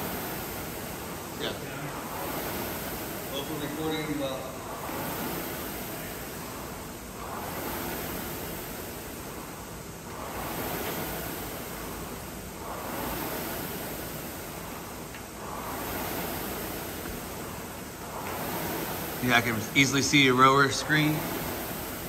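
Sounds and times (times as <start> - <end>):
rowing machine flywheel whooshing: 0.0 - 22.0.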